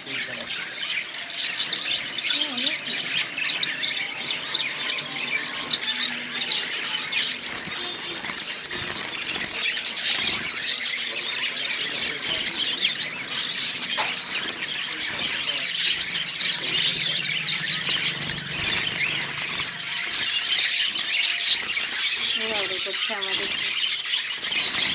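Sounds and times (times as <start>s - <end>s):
sparrows chirping and calling: 0.0s - 24.9s.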